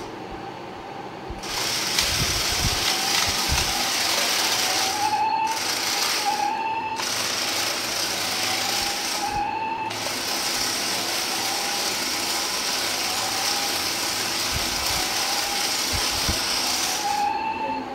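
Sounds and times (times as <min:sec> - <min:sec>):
toy car motors whirring: 0:01.4 - 0:17.3.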